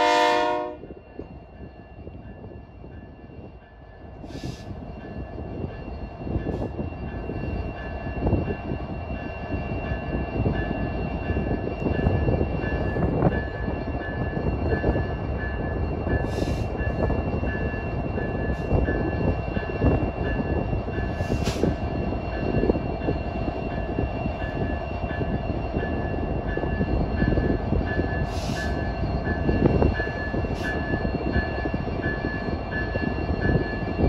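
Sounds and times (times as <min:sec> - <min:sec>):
diesel locomotive rumbling: 0:00.0 - 0:34.0.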